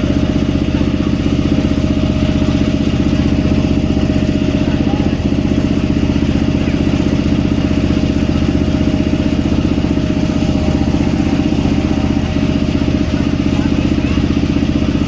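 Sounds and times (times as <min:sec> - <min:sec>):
boat engine thudding: 0:00.0 - 0:15.0.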